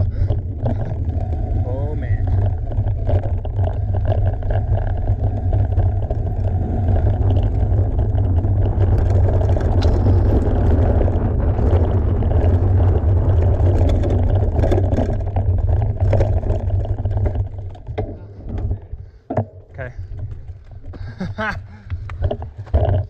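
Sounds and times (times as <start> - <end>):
wind rumble on microphone: 0.0 - 19.1
bike clicks and rattles: 0.0 - 23.0
tyres rolling on rocky trail: 0.0 - 23.0.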